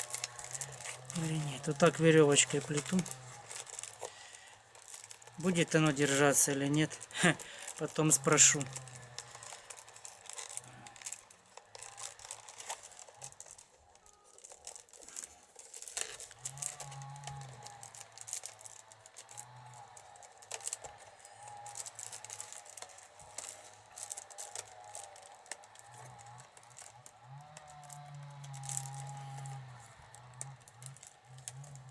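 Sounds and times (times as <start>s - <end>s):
wicker rods crackling and rustling: 0.0s - 31.9s.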